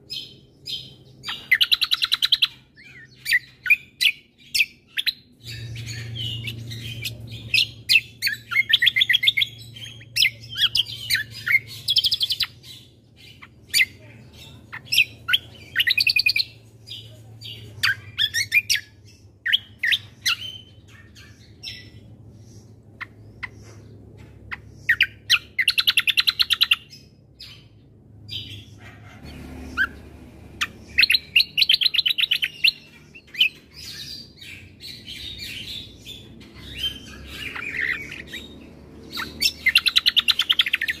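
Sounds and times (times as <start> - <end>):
songbird chirping and trilling: 0.0 - 41.0.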